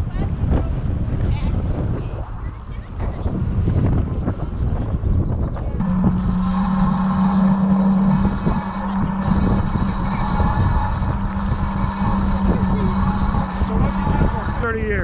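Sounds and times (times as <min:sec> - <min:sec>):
steady low hum: 0:00.0 - 0:15.0
wind rumbling on microphone: 0:00.0 - 0:15.0.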